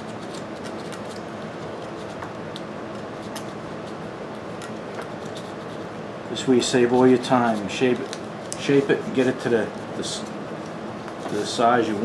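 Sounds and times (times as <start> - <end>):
room noise hum: 0.0 - 12.0.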